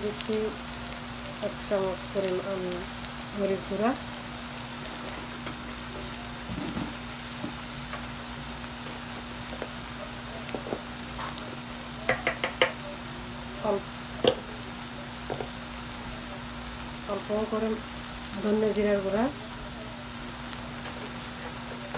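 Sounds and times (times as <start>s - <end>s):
onions sizzling in pan: 0.0s - 21.9s.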